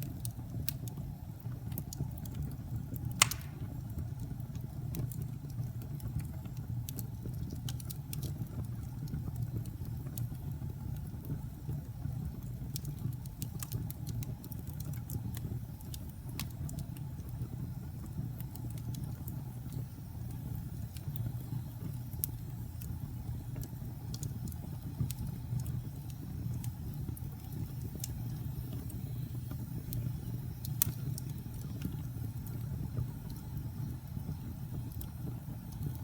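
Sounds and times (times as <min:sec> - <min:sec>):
fire burning in fireplace: 0:00.0 - 0:36.0.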